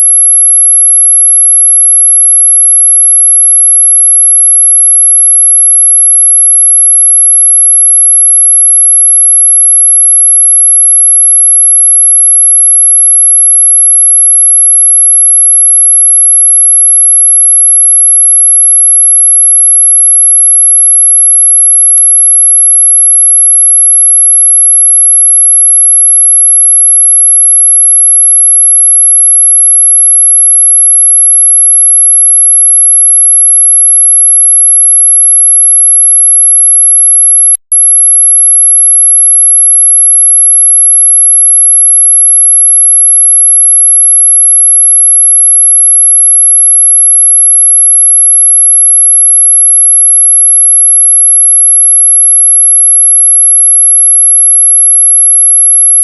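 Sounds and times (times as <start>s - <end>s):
high-pitched electronic sine tone: 0.0s - 56.0s.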